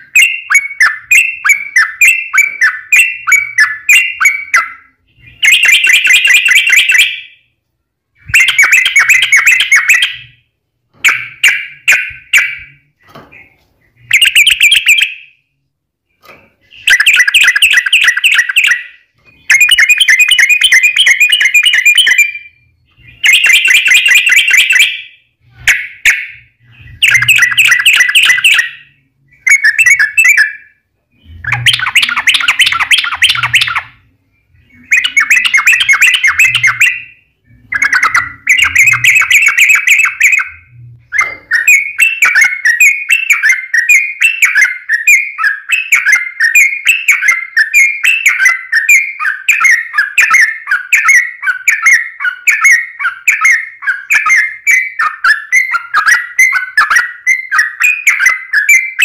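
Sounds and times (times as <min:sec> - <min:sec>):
bird chattering song: 0:00.0 - 0:07.5, 0:08.2 - 0:15.4, 0:16.1 - 0:59.0.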